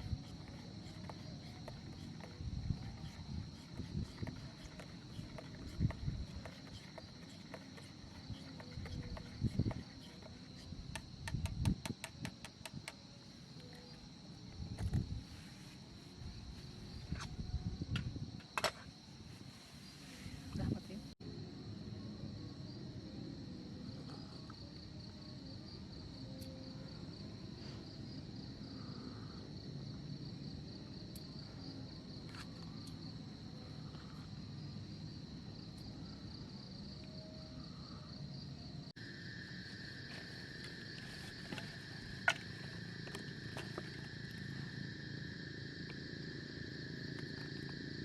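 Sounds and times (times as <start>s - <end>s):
insects trilling: 0.0s - 48.0s
lower insect tone: 0.0s - 48.0s.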